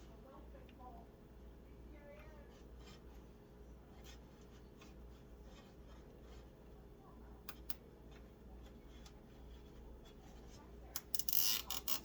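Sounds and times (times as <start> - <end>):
low steady hum: 0.0 - 12.0
cables rustling and scraping: 2.0 - 12.0.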